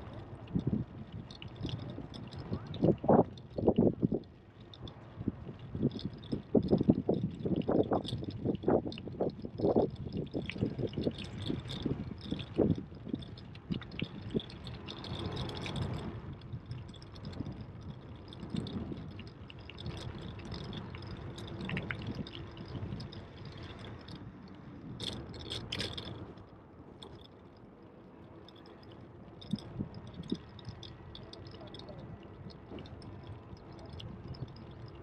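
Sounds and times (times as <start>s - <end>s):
bike clicks and rattles: 0.0s - 27.7s, 28.4s - 35.0s.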